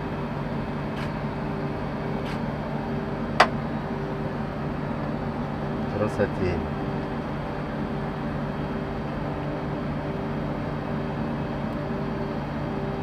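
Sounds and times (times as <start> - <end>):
ventilation fans humming: 0.0 - 13.0.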